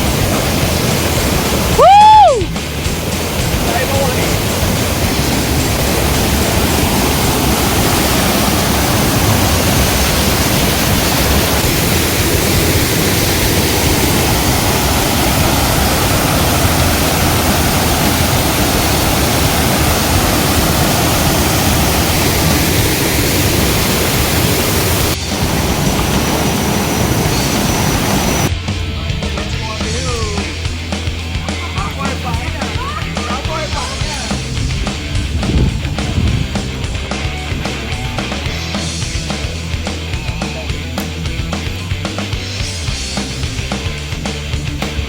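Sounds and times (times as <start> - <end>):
falling water rushing: 0.0 - 45.0.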